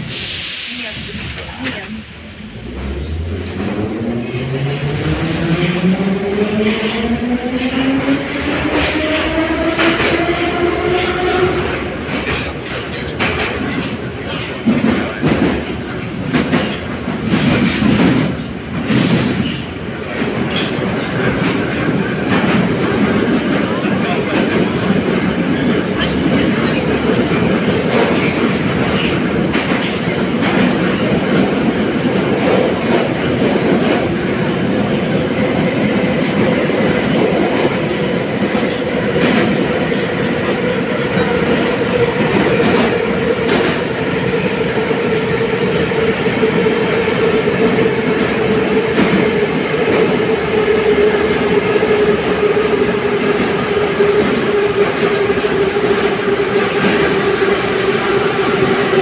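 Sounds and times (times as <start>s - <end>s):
train wheels rumbling on rail: 0.0s - 59.0s
train whine: 0.0s - 59.0s.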